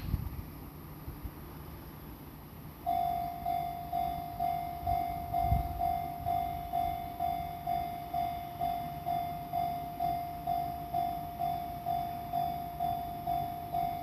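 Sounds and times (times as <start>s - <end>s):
level crossing warning bell: 2.7s - 14.0s.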